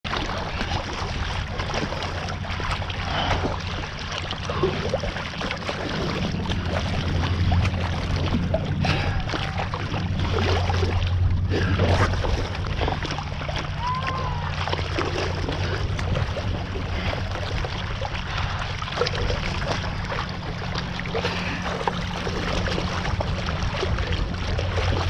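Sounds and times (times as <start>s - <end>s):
small splashes: 0.0s - 25.0s
wind and water rushing: 0.0s - 25.0s.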